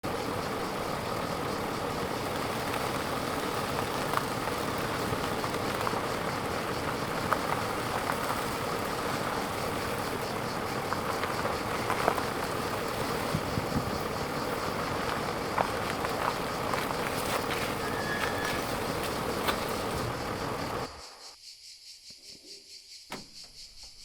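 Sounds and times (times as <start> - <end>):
mechanical engine-like drone: 0.0 - 21.4.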